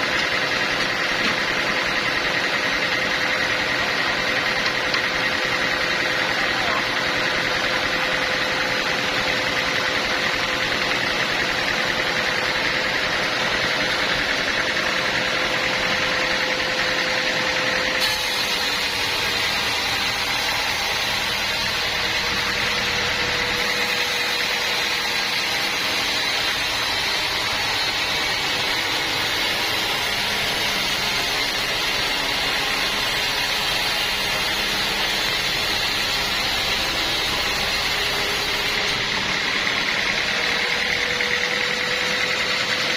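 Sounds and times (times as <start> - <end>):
portable sawmill running: 0.0 - 42.9.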